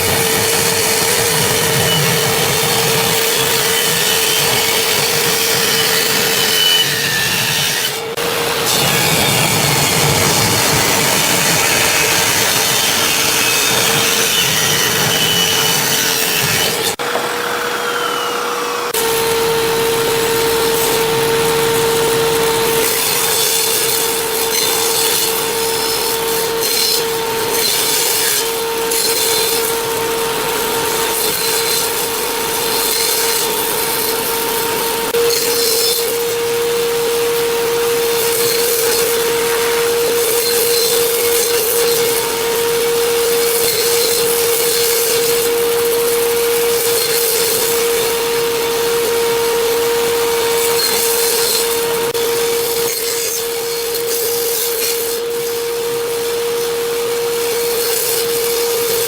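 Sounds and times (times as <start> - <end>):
power tool cutting wood: 0.0 - 59.0.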